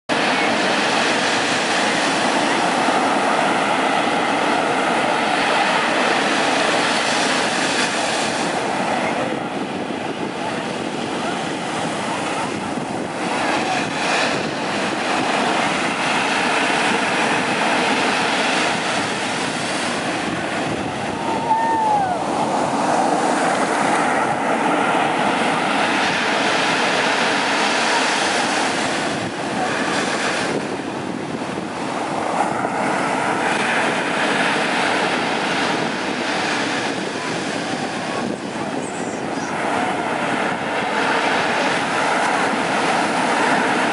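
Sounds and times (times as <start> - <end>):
surf breaking on beach: 0.1 - 43.9.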